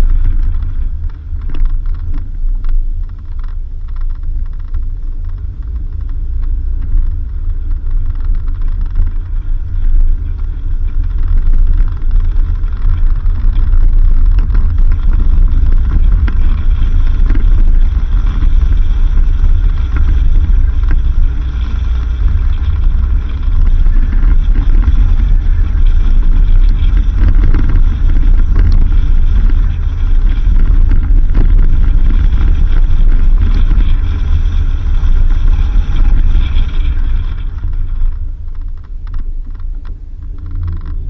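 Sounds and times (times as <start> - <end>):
car driving on dirt road: 0.0 - 41.0.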